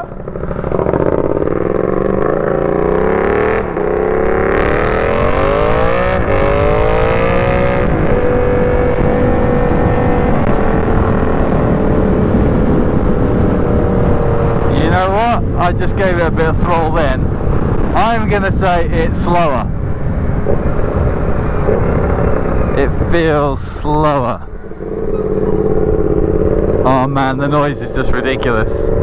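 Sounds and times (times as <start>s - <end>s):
motorcycle accelerating: 0.0s - 29.0s.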